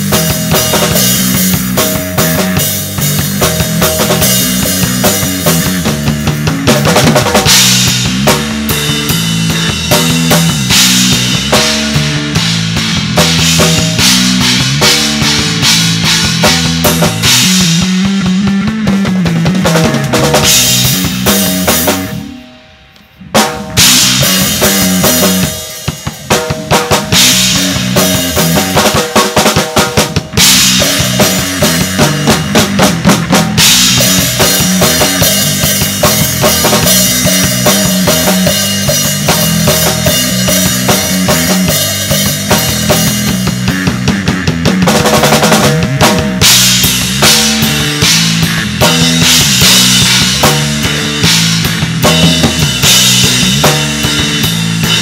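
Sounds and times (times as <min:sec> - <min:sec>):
drum kit: 0:00.0 - 0:55.0
electric bass guitar: 0:00.0 - 0:55.0.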